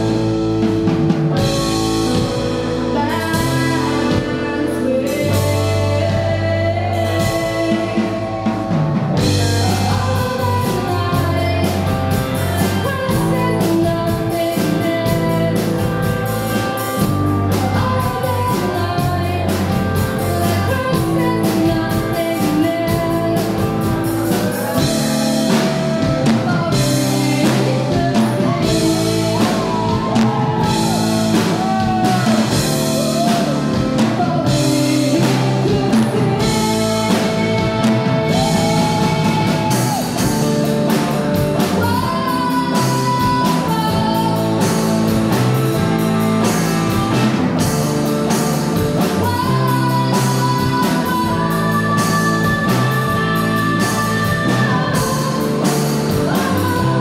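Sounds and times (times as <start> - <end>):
bass guitar: 0.0 - 57.0
drum kit beat: 0.0 - 57.0
electric guitars: 0.0 - 57.0
woman singing lead: 0.0 - 57.0.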